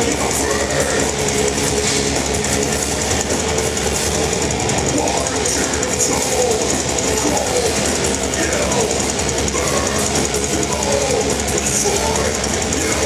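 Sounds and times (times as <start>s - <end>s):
live metal band playing: 0.0s - 13.0s.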